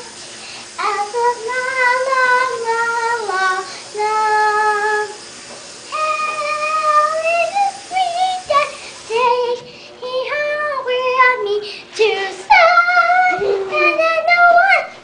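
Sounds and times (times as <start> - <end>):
girl singing: 0.8 - 5.2, 5.9 - 15.0.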